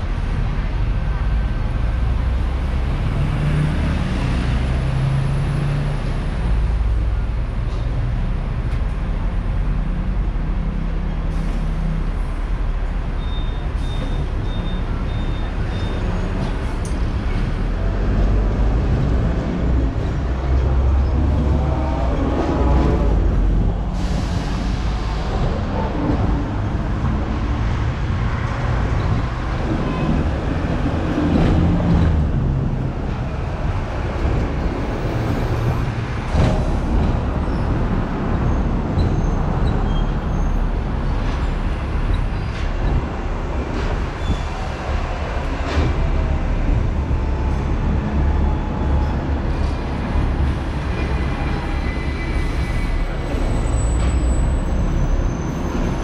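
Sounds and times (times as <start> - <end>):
tram wheels and motor rumbling: 0.0 - 56.0.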